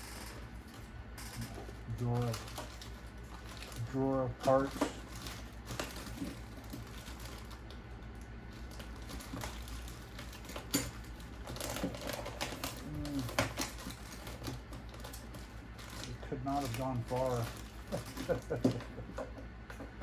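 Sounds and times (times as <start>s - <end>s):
small parts clicking and rattling: 0.0s - 7.8s, 8.5s - 20.0s.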